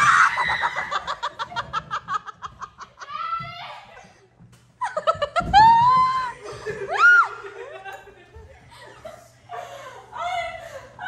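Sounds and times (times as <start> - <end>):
young women laughing: 0.0 - 11.0.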